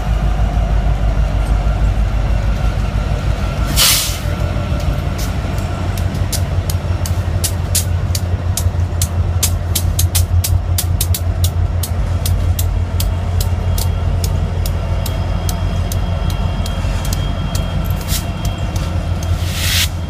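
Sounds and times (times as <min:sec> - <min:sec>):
locomotive engine rumble: 0:00.0 - 0:20.0
wheels clicking on rails: 0:01.3 - 0:20.0.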